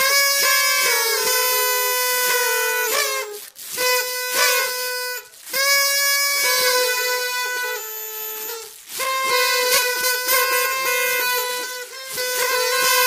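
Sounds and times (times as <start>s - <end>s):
party trumpets blowing: 0.0s - 13.0s.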